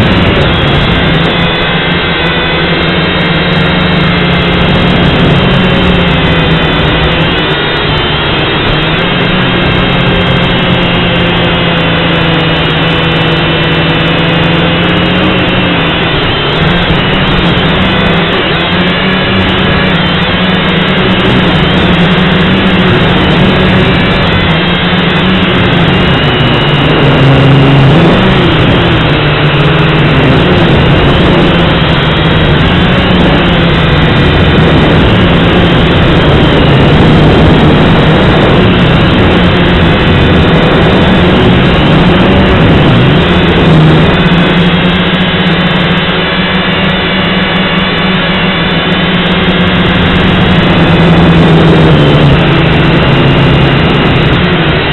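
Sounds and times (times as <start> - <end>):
drone motors buzzing: 0.0 - 54.9.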